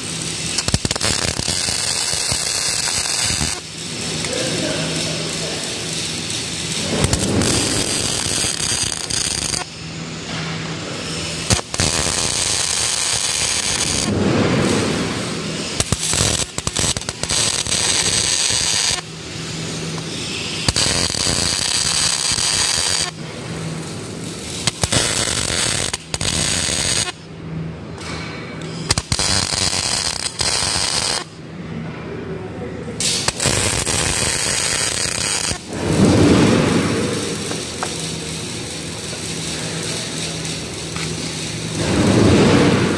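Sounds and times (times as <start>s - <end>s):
welding arc crackling: 0.0s - 31.5s, 32.9s - 42.9s.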